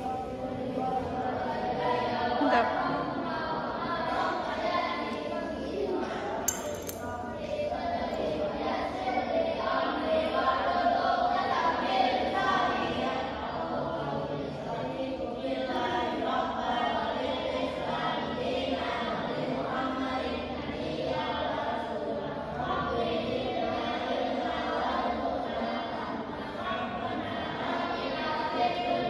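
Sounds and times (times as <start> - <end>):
congregation chanting in unison: 0.0 - 6.4, 7.0 - 29.0.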